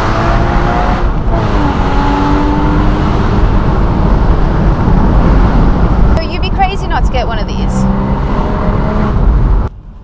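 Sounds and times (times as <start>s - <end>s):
wind buffeting: 0.4s - 9.7s.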